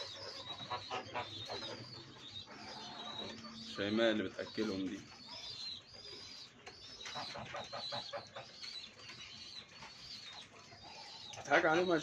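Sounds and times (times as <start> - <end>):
soft pulses of pigeon feeding: 0.0 - 12.0.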